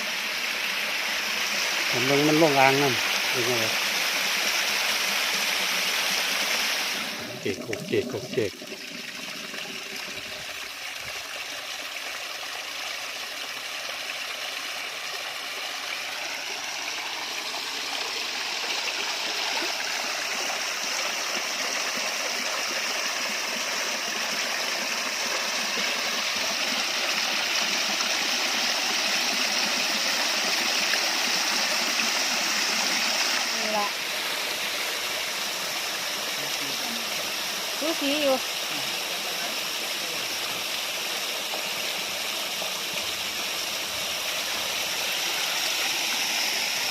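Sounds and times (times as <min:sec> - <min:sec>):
waterfall splashing into basin: 0:00.0 - 0:46.9.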